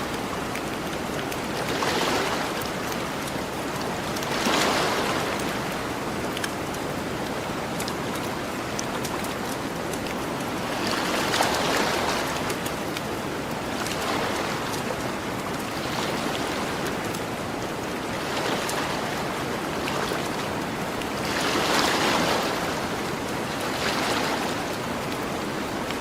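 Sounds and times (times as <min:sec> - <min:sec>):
ocean waves washing ashore: 0:00.0 - 0:26.0.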